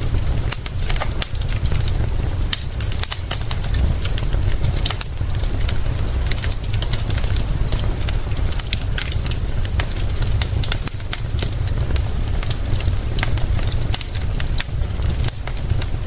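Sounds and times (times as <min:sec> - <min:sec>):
low rumble: 0:00.0 - 0:16.0
rain hissing: 0:00.0 - 0:16.0
wood fire crackling and popping: 0:00.0 - 0:16.0.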